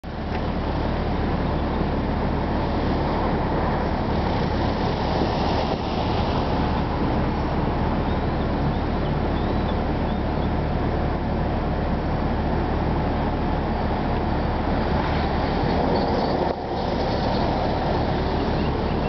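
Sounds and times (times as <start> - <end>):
low rumbling outdoor noise: 0.0 - 19.0.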